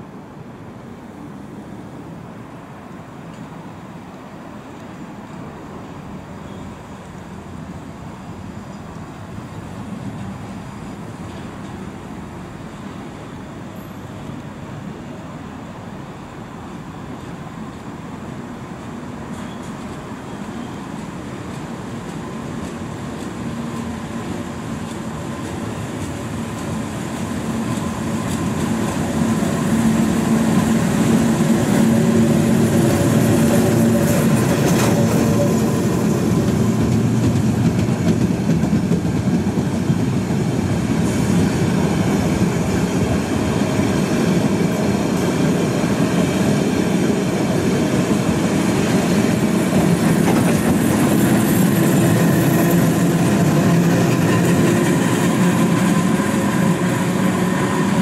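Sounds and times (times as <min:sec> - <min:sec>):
train wheels rumbling and clattering: 0:07.9 - 0:14.9, 0:16.7 - 0:58.0.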